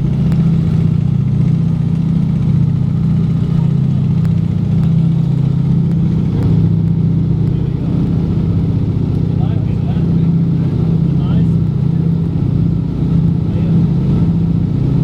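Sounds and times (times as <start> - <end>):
aircraft engines droning: 0.0 - 15.0.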